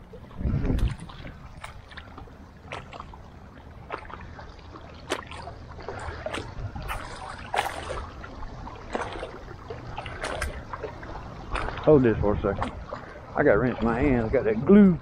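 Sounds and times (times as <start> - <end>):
waves lapping against rocks: 0.0 - 14.9.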